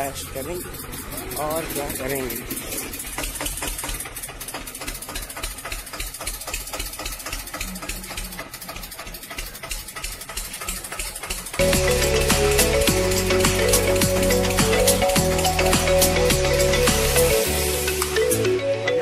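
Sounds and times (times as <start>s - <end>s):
tractor diesel engine knocking: 0.0s - 17.2s.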